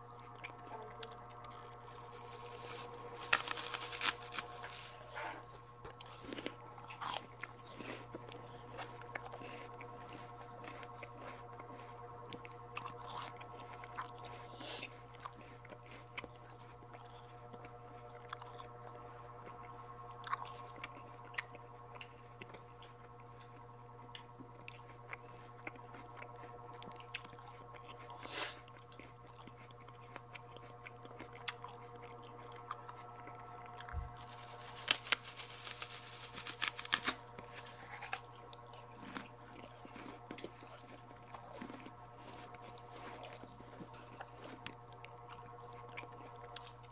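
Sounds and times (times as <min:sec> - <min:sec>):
chewing and biting fruit: 0:00.0 - 0:46.9
steady low hum: 0:00.0 - 0:46.9.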